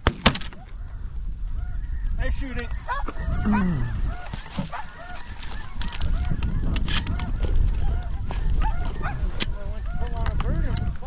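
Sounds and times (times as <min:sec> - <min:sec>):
wind rumble on microphone: 0:00.5 - 0:11.0
snow geese honking: 0:01.6 - 0:11.0.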